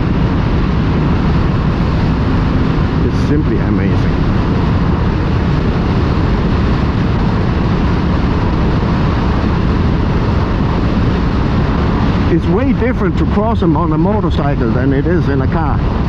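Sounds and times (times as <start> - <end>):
motorcycle engine cruising: 0.0 - 16.0
wind rush over microphone: 0.0 - 16.0.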